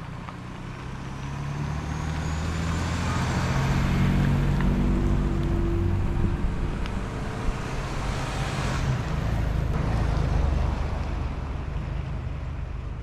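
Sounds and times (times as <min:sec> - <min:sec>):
car engine and road rumble: 0:00.0 - 0:13.0
road noise rushing: 0:00.0 - 0:13.0.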